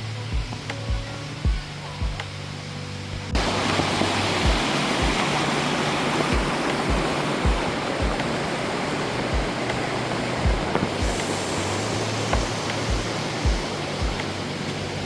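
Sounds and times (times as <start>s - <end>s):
background music with low beat: 0.0s - 15.0s
waterfall rushing: 0.0s - 15.0s.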